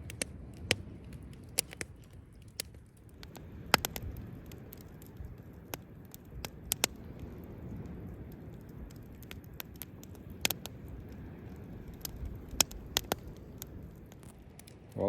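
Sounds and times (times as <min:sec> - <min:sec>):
campfire wood crackling and popping: 0:00.0 - 0:15.0.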